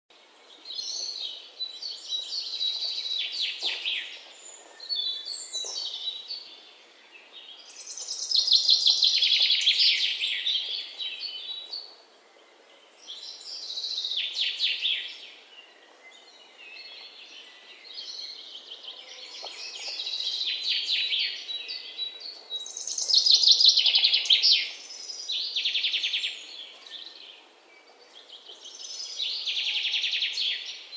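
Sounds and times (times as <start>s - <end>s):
small birds chirping: 0.4s - 30.9s.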